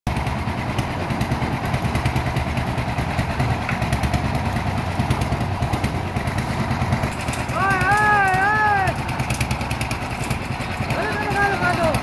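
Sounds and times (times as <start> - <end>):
concrete mixer diesel engine running: 0.1 - 12.0.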